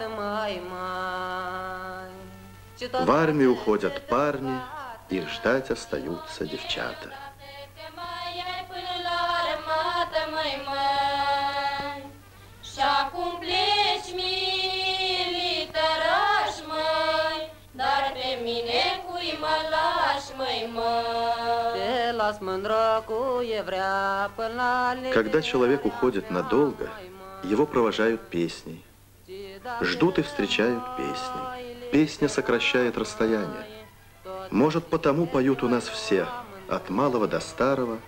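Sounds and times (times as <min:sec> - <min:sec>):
women singing folk song: 0:00.0 - 0:28.5, 0:29.2 - 0:38.0.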